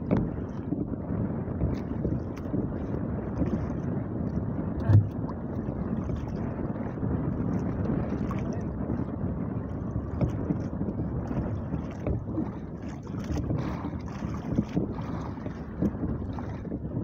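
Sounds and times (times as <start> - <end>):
waves lapping against canoe: 0.0 - 17.0
wind buffeting microphone: 0.0 - 17.0.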